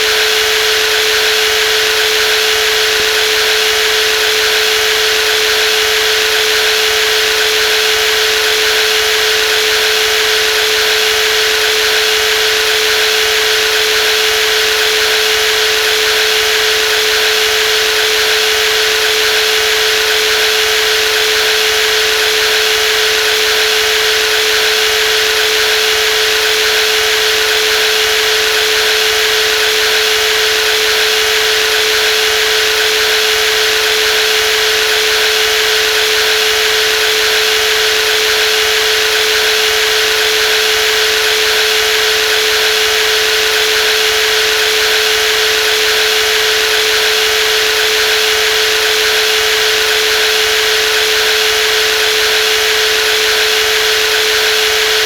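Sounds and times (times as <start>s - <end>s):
jigsaw running with a whine: 0.0s - 55.0s.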